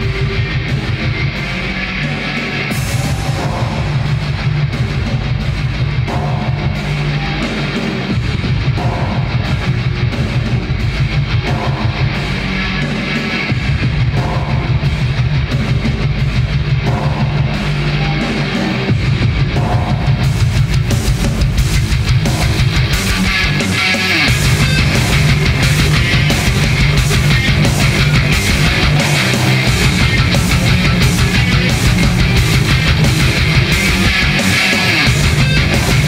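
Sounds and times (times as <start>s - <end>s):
drums: 0.0s - 36.0s
electric guitar riffing: 0.0s - 36.0s
heavy rock music: 0.0s - 36.0s.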